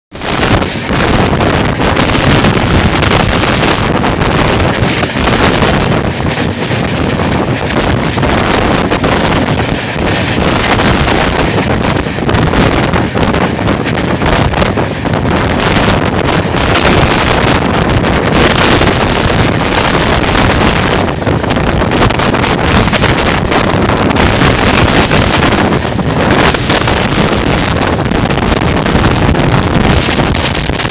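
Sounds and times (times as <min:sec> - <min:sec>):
train running on track: 0:00.1 - 0:30.9
wind buffeting microphone: 0:00.1 - 0:30.9.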